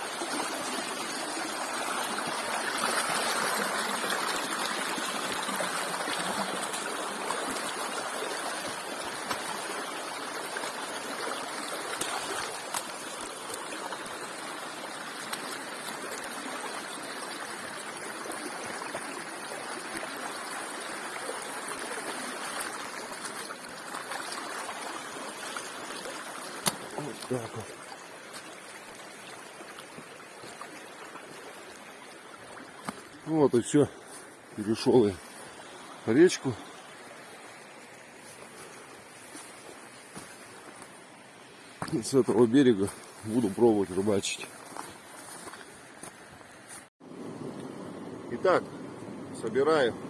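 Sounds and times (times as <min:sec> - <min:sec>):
river rushing over stones: 0:00.0 - 0:50.0.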